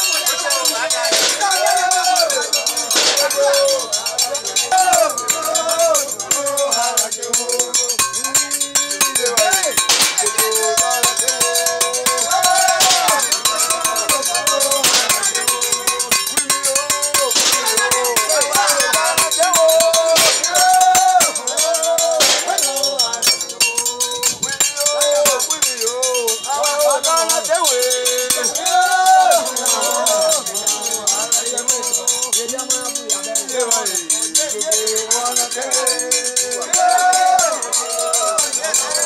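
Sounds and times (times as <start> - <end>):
group of voices singing: 0.0 - 39.0
metal percussion clinking: 0.0 - 39.0.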